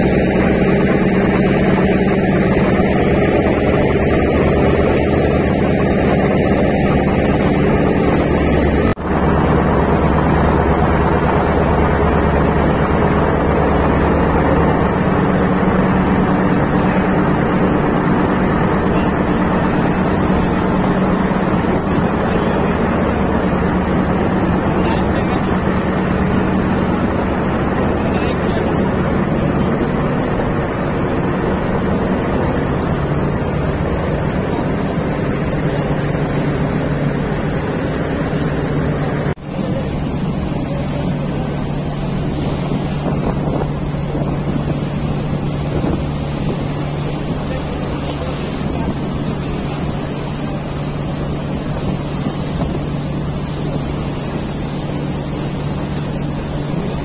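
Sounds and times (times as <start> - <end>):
boat engine drone: 0.0 - 57.0
rushing water: 0.0 - 57.0
wind on microphone: 0.0 - 57.0.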